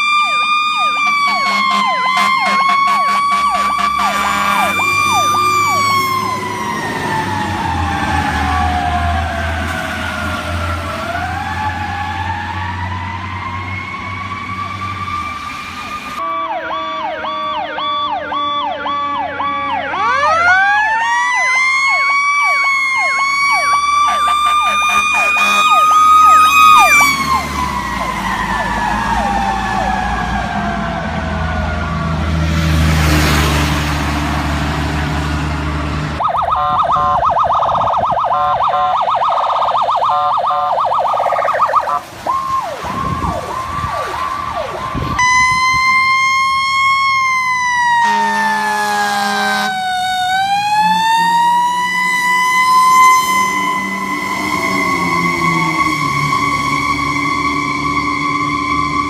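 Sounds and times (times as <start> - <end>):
fire truck sirens: 0.0 - 59.0
truck engines rumbling: 0.0 - 59.0.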